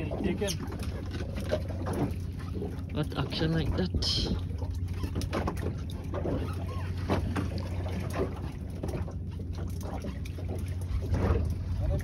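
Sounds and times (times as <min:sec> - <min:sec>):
wind and sea rumble: 0:00.0 - 0:12.0.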